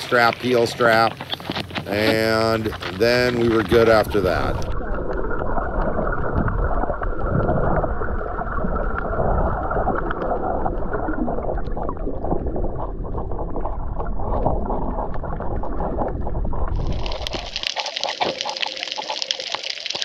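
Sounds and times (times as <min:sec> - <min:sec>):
small underwater clicks and crackles: 0:00.0 - 0:20.0
underwater churn of surf: 0:00.0 - 0:20.0.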